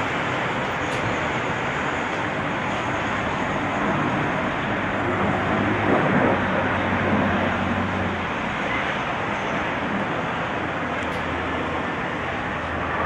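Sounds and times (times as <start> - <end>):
jet aircraft flying: 0.0 - 13.0.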